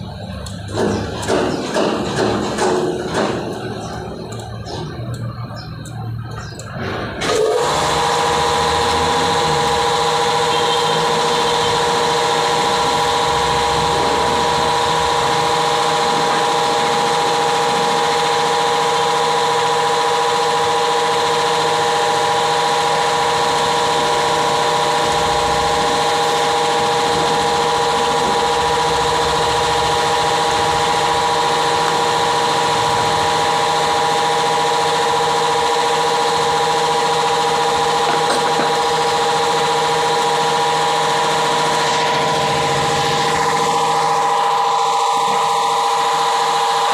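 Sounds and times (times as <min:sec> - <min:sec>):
pump motor humming: 0:00.0 - 0:46.9.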